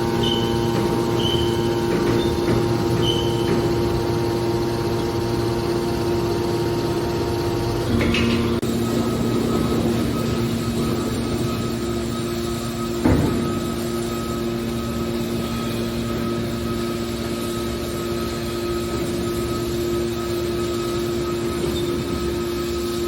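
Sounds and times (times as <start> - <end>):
baler machine humming: 0.0 - 23.0.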